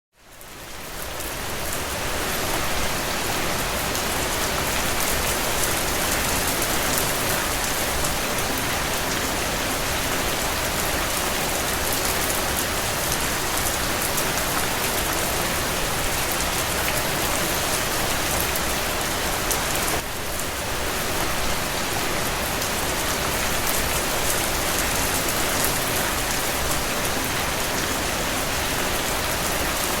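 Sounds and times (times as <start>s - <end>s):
rain falling: 0.2s - 30.0s.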